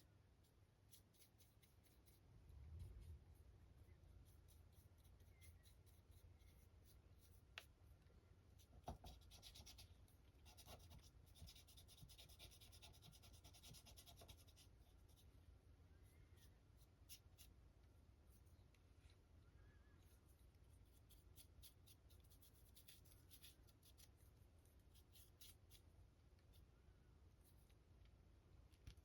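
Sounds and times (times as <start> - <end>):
faint scratching and rubbing: 0.4 - 27.9.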